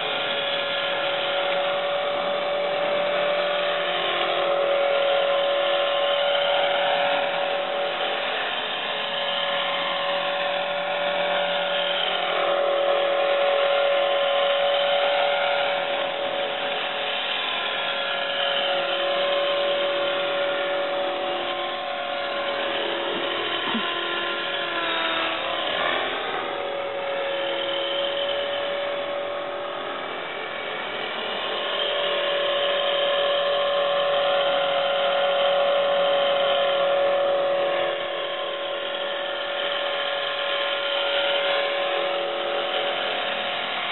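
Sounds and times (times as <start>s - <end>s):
rc helicopter rotor whining: 0.0s - 43.9s.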